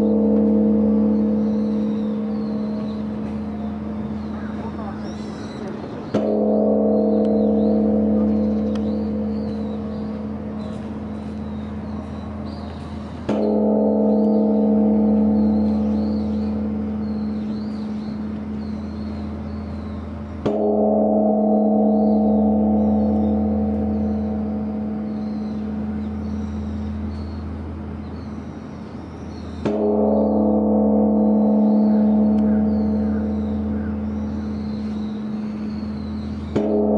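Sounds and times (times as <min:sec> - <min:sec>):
large bronze temple bell: 0:00.0 - 0:36.9.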